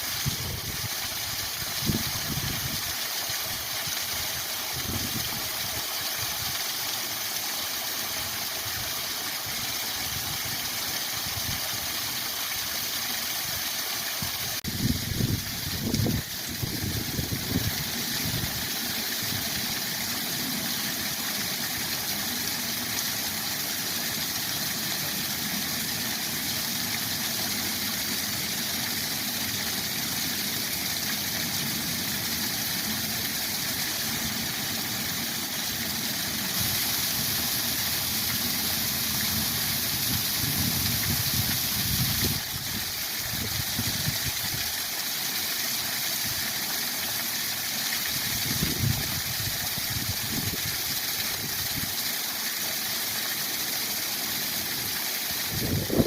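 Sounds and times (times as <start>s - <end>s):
waterfall rushing: 9.3s - 56.0s.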